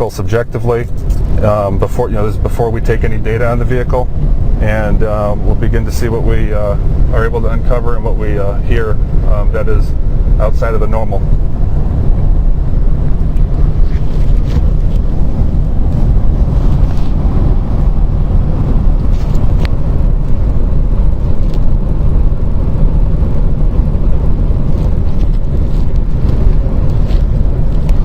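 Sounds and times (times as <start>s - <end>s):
wind rushing over vehicle: 0.0s - 28.0s.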